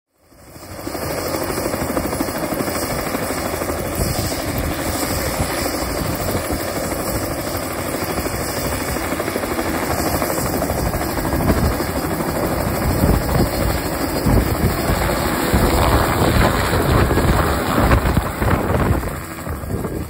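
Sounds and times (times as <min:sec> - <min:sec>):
helicopter rotor running: 0:00.2 - 0:20.0.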